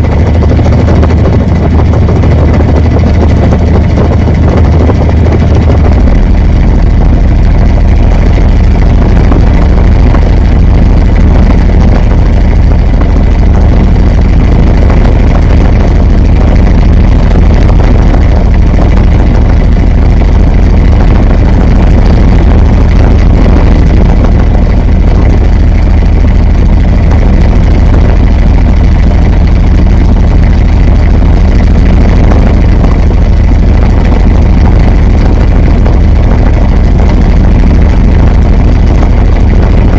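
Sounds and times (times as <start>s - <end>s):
washing machine rumbling: 0.0s - 39.9s.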